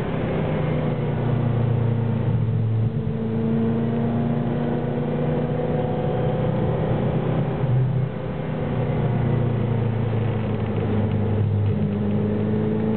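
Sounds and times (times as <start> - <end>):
car engine running hard: 0.0 - 12.9.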